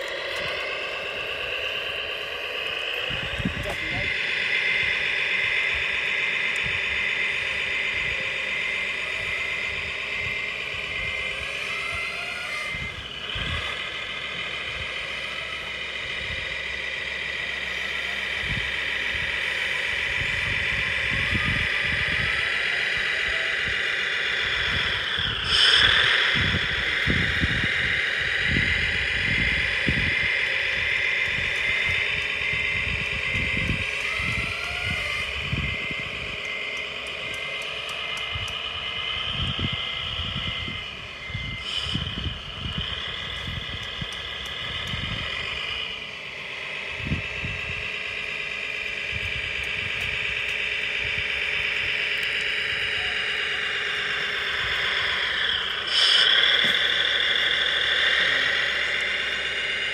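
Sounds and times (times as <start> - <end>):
toy truck electric whine: 0.0 - 59.9.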